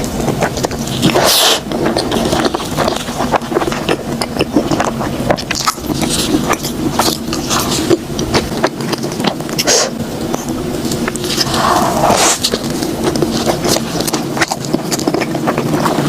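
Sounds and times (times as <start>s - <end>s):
close chewing with mouth clicks: 0.0s - 16.0s.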